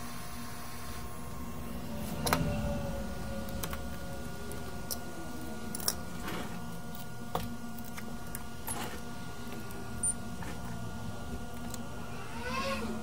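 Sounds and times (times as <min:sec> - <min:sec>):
electrical equipment hum: 0:00.0 - 0:13.0.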